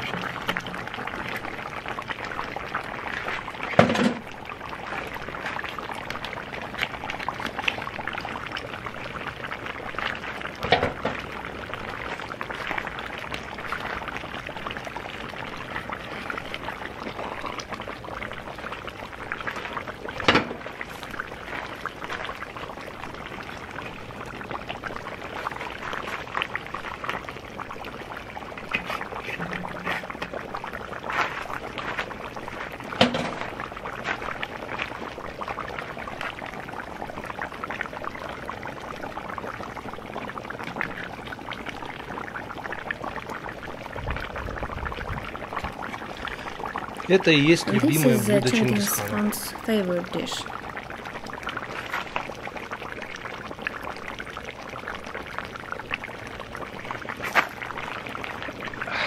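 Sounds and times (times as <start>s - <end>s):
stew bubbling and sizzling: 0.0s - 59.0s.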